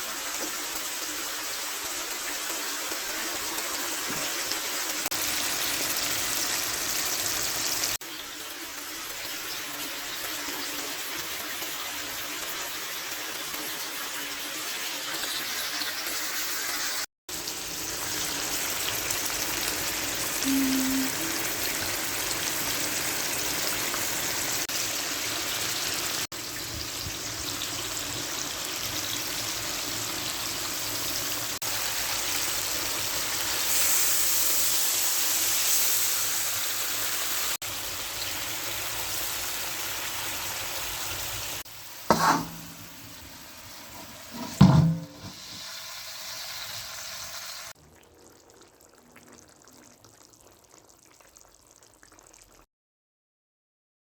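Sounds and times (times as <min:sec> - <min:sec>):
food sizzling in a pan: 0:00.0 - 0:52.7.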